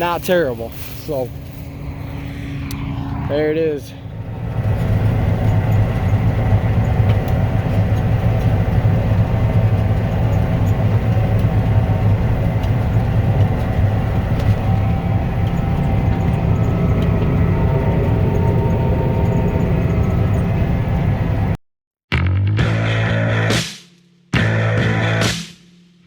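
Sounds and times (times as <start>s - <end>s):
combine harvester drone: 0.0s - 21.6s.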